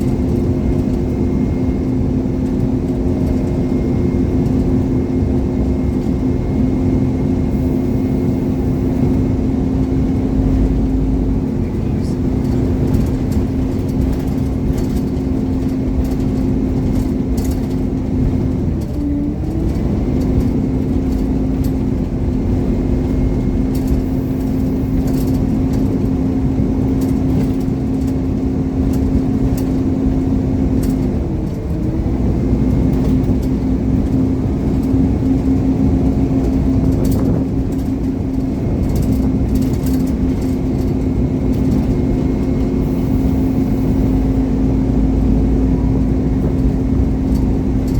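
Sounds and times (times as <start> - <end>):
bus diesel engine droning: 0.0 - 47.9.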